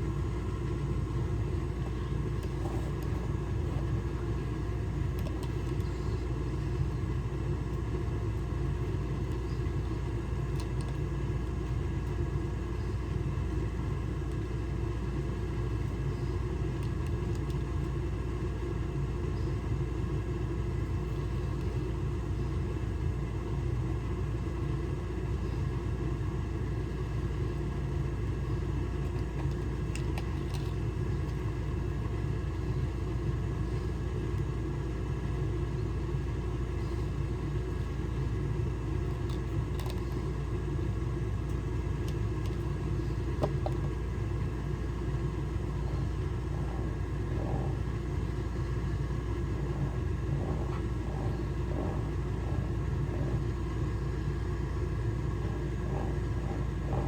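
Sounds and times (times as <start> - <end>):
constant hum: 0.0 - 57.0.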